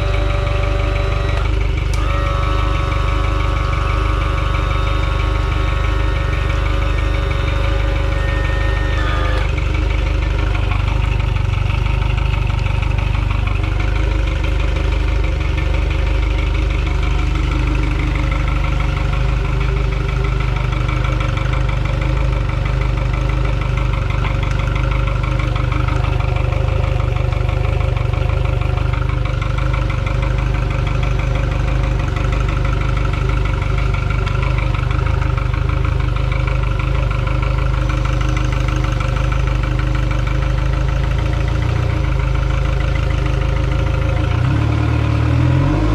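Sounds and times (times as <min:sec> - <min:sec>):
outboard motor idling: 0:00.0 - 0:45.9.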